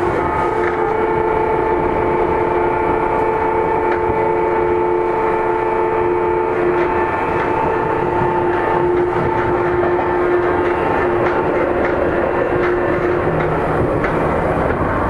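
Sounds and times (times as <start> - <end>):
electric whining tones: 0.0 - 15.0
train wheels rumbling on rail: 0.0 - 15.0.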